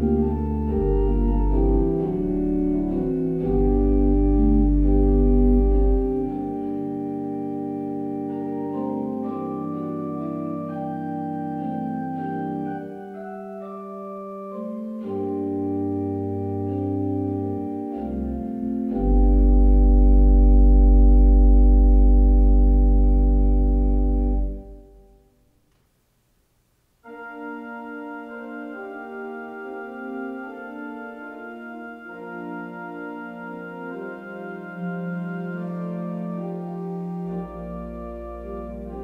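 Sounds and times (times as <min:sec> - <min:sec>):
organ playing held chords: 0:00.0 - 0:25.3, 0:27.0 - 0:39.0.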